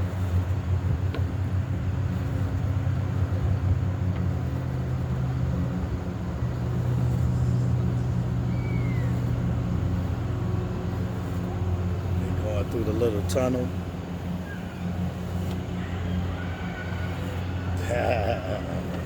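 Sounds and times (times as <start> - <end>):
motorboat engine drone: 0.0 - 19.0.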